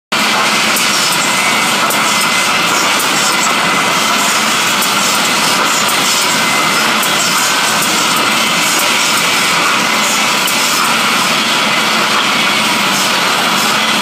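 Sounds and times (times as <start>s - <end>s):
woodworking machine running: 0.1s - 14.0s.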